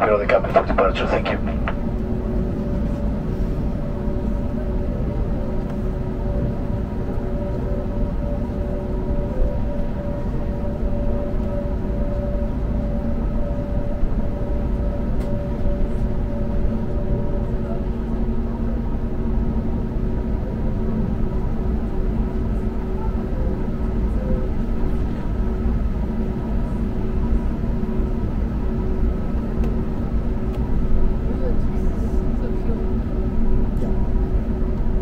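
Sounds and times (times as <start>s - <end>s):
airliner cabin rumble: 0.0s - 35.0s
high engine hum: 0.0s - 35.0s.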